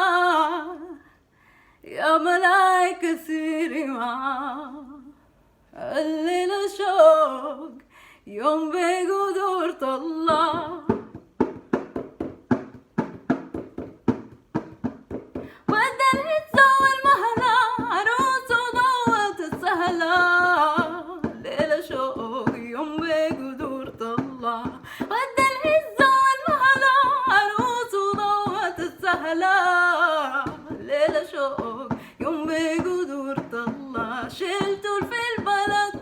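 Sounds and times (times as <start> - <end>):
woman singing: 0.0 - 1.1, 1.8 - 11.2, 15.4 - 36.0.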